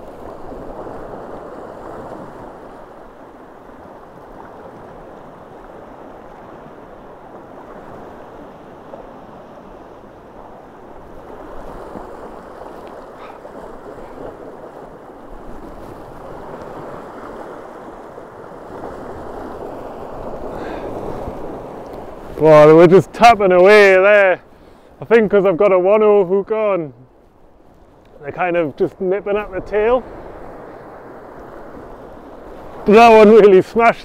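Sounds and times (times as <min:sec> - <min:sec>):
wind buffeting microphone: 0:00.0 - 0:25.4, 0:26.4 - 0:34.0
surf breaking over rocks: 0:00.0 - 0:34.0.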